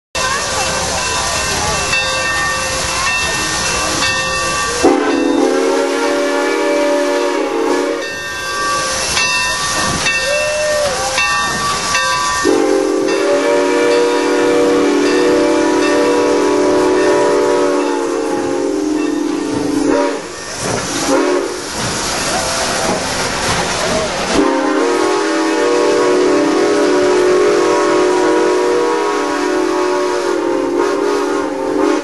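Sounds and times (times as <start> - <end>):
hiss of escaping steam: 0.2 - 32.0
steam locomotive whistle: 1.9 - 22.0, 24.3 - 32.0.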